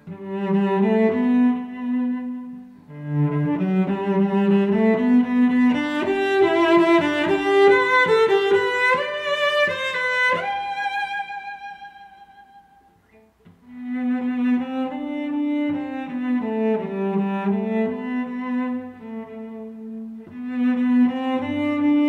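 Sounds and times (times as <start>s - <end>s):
violin and cello music: 0.0s - 12.7s, 13.6s - 22.0s.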